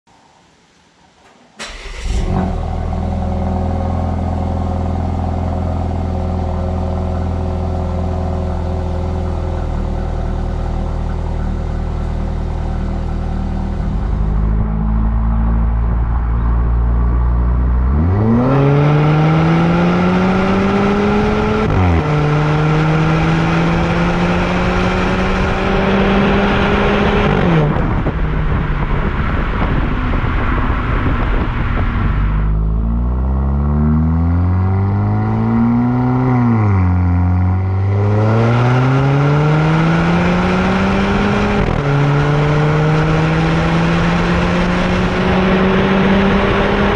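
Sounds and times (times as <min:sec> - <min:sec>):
car engine idling and revving: 0:01.3 - 0:46.9.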